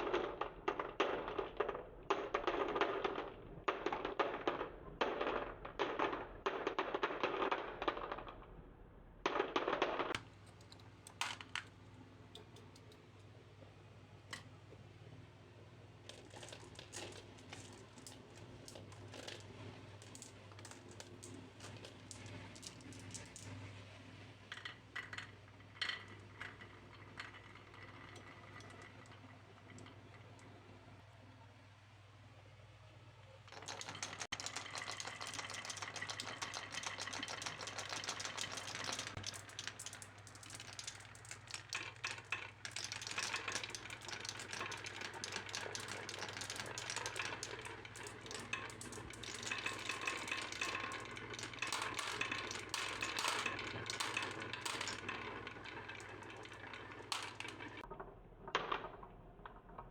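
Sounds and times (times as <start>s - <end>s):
marbles rattling down wooden run: 0.0s - 8.6s, 9.2s - 10.2s, 16.1s - 23.6s, 24.5s - 30.6s, 33.5s - 59.9s.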